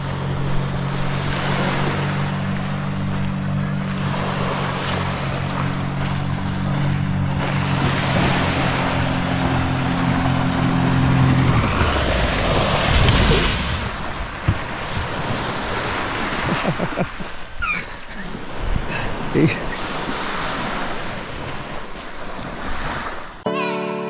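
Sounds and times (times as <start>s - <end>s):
wind on microphone: 0.0s - 19.3s
motorboat engine running: 0.0s - 23.2s
small waves washing on shore: 0.0s - 23.4s.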